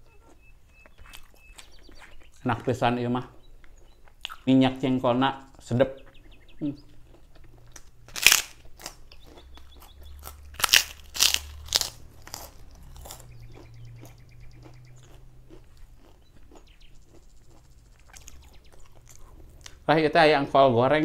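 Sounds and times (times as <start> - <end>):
chewing: 0.0 - 2.6, 3.4 - 4.8, 5.6 - 19.9
cracker crunching: 0.0 - 2.6, 3.5 - 4.8, 6.8 - 19.9.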